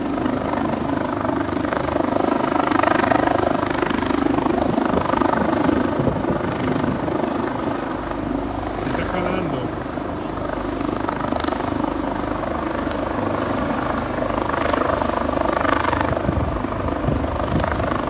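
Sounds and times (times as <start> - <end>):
helicopter rotor drone: 0.0 - 18.0.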